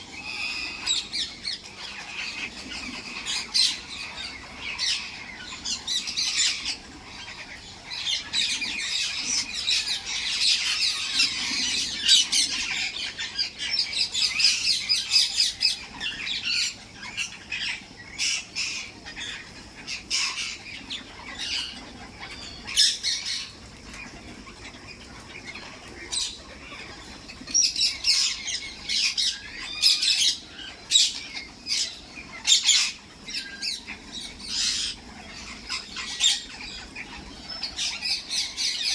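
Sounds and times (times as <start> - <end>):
parrots squawking: 0.0 - 38.9.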